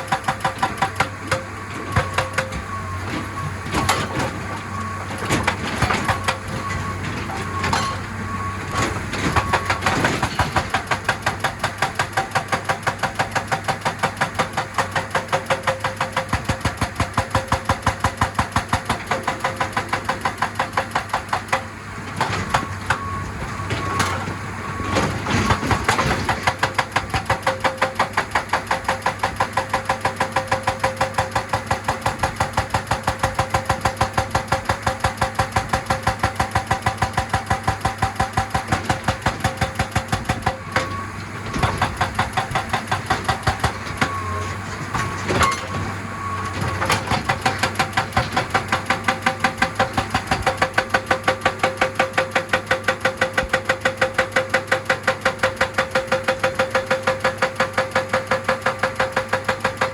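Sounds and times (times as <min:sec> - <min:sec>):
excavator engine running: 0:00.0 - 0:59.9
hydraulic breaker hammering rock: 0:00.0 - 0:59.9.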